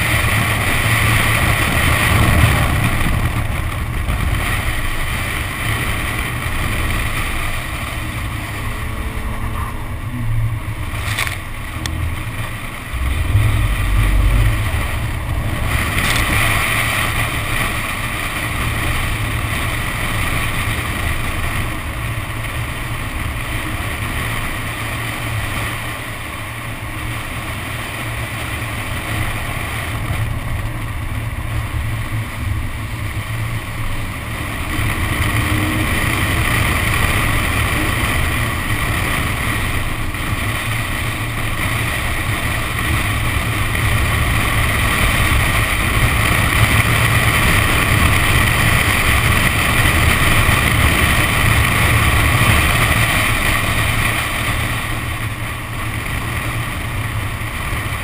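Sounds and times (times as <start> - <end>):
car engine running: 0.0 - 58.0
wind rumble on microphone: 0.0 - 58.0.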